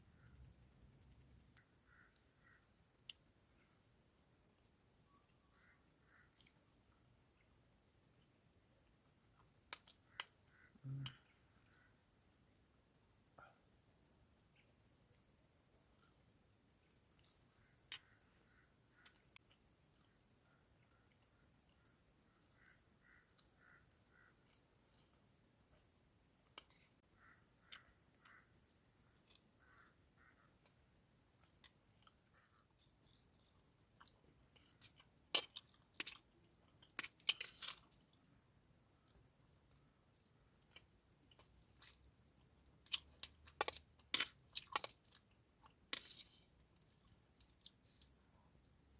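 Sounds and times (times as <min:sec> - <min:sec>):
insect chirping: 0:00.0 - 0:48.9.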